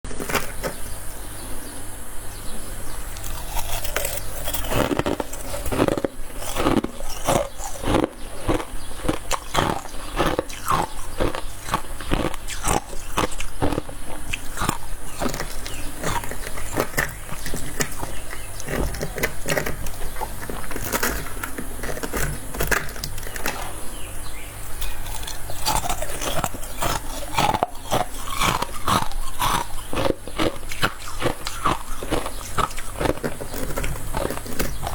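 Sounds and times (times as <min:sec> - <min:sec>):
person chewing frost crunches: 0:03.0 - 0:24.1, 0:24.7 - 0:34.9.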